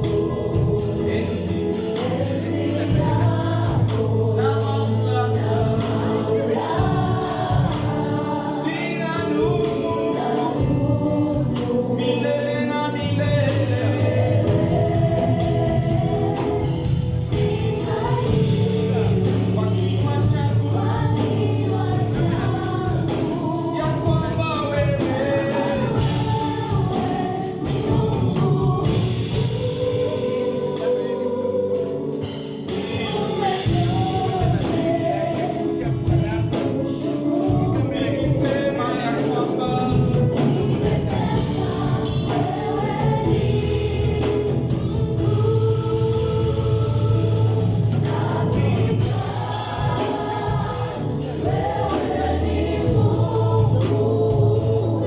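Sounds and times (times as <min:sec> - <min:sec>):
choir singing gospel song: 0:00.0 - 0:55.0
live instrumental backing with beat: 0:00.0 - 0:55.0.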